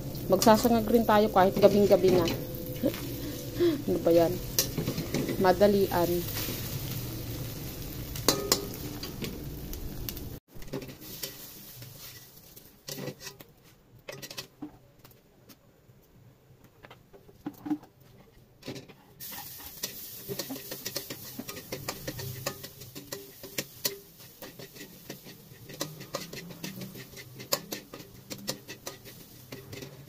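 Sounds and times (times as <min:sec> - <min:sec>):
eggs sizzling in a wok: 0:00.0 - 0:14.6, 0:19.1 - 0:30.0.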